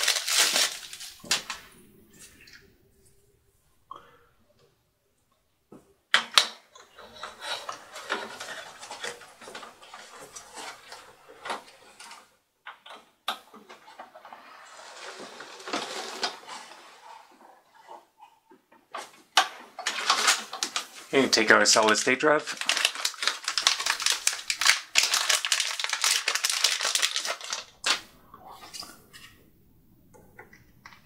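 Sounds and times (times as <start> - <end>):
cables rustling and scraping: 0.0 - 3.5, 6.7 - 31.0.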